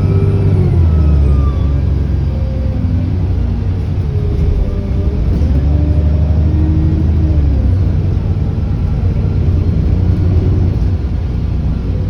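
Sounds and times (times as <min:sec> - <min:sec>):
bus diesel engine under load: 0:00.0 - 0:12.0.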